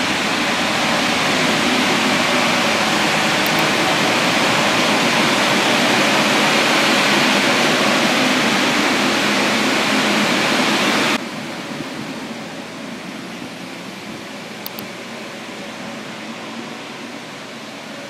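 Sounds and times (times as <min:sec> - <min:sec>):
blower fans rushing air: 0:00.0 - 0:18.0.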